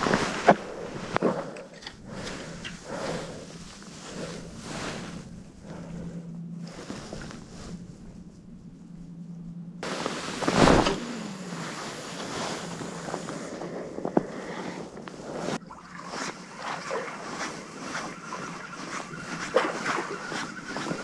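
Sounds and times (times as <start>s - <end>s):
seawater lapping: 0.0s - 9.2s, 9.8s - 21.0s.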